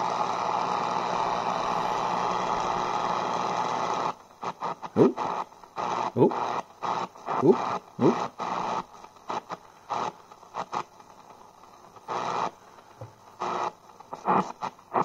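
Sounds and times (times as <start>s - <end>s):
radio static bursts: 0.0s - 15.0s
snatches of radio signal: 0.0s - 15.0s.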